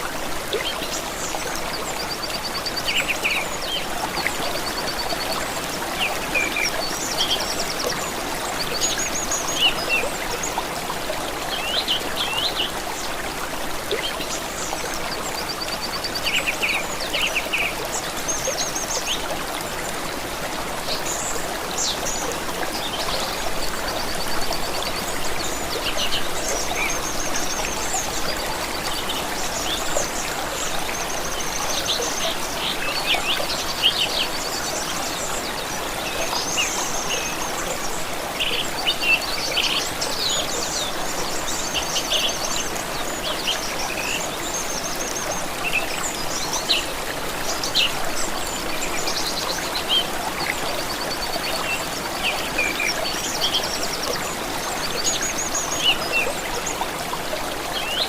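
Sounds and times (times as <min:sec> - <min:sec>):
songbirds calling and trilling: 0:00.0 - 0:58.0
stream water trickling: 0:00.0 - 0:58.0.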